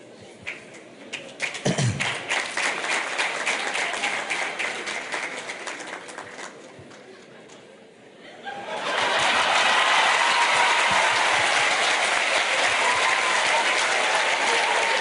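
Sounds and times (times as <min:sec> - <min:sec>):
audience applauding: 0:01.1 - 0:07.0, 0:08.8 - 0:15.0.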